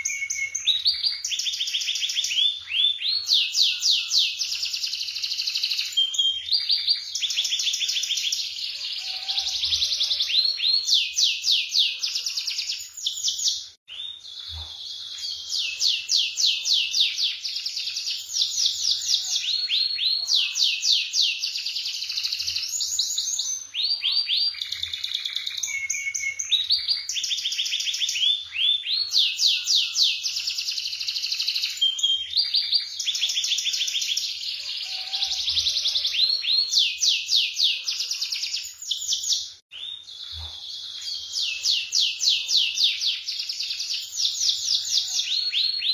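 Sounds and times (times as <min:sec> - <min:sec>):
canary singing in trills: 0:00.0 - 0:45.9.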